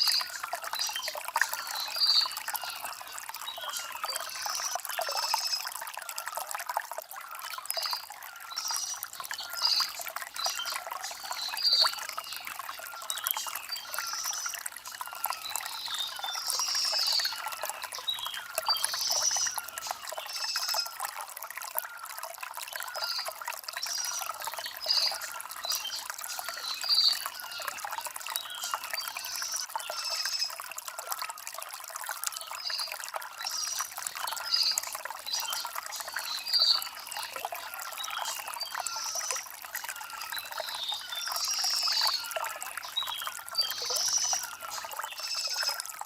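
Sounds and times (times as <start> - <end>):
stream babbling over stones: 0.0 - 46.0.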